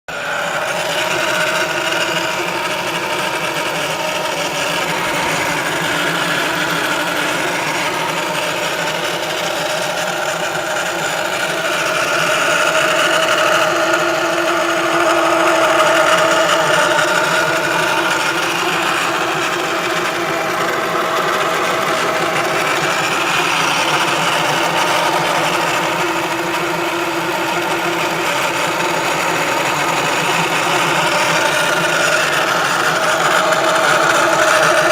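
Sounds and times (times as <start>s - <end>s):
car mechanical whine and hum: 0.1s - 34.9s.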